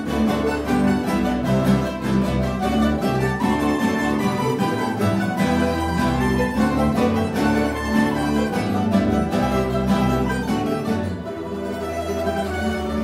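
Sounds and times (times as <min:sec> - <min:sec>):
mandolin orchestra playing: 0:00.0 - 0:13.0.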